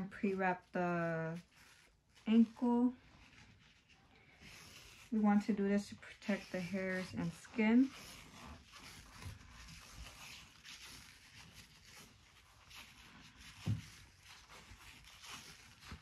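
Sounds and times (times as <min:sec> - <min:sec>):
foam wrap rustling: 0:00.0 - 0:16.0.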